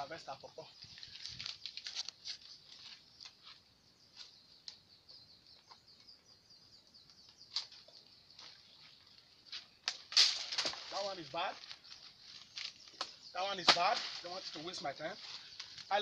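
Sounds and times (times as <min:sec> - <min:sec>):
faint high bird chirping: 0:00.0 - 0:09.9, 0:10.9 - 0:16.0.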